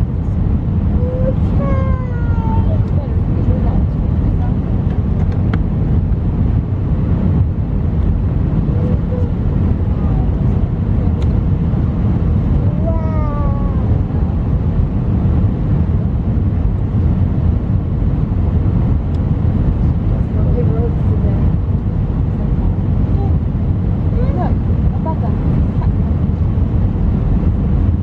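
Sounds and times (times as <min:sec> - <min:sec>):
airplane cabin roar: 0:00.0 - 0:28.0.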